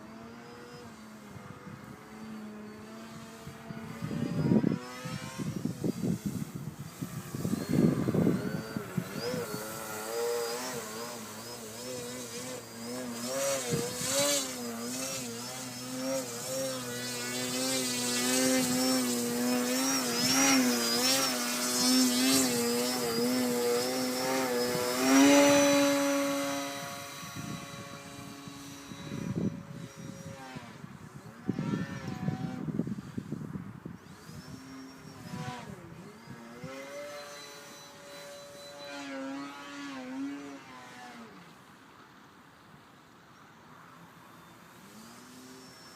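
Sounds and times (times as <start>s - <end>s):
model airplane motor whine: 0.0s - 42.1s, 43.9s - 45.9s.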